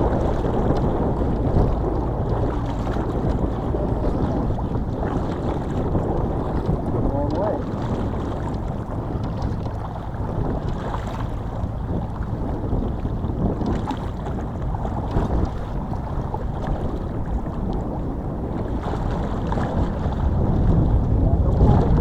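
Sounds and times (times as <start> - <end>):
water washing: 0.0 - 17.6
wind buffeting microphone: 0.0 - 22.0.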